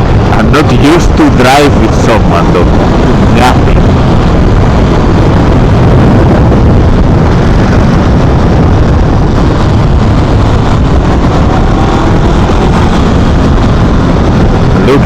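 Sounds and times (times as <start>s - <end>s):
wind rush on microphone: 0.0s - 15.0s
motorcycle engine running: 1.8s - 15.0s.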